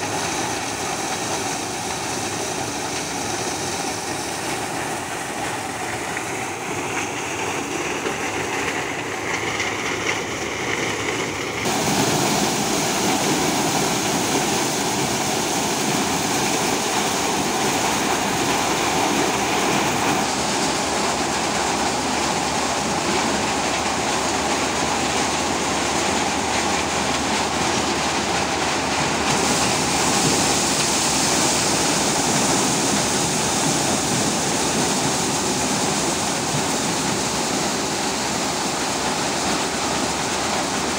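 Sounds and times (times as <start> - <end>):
maize sheller machine rushing: 0.0 - 40.9.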